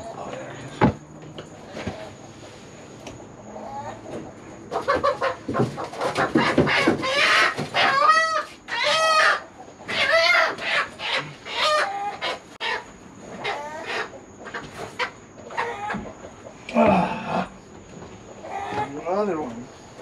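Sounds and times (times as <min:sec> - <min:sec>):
chickens squawking: 0:01.6 - 0:20.0.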